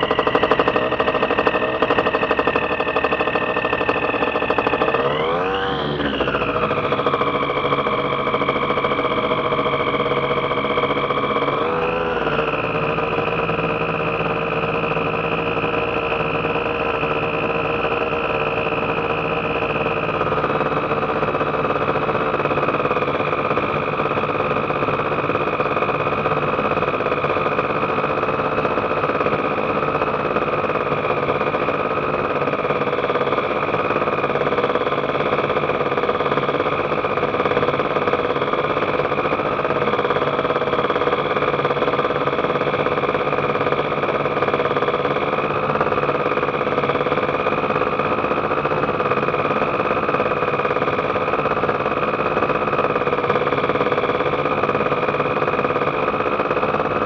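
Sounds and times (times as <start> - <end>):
aircraft engine and propeller: 0.0 - 57.0.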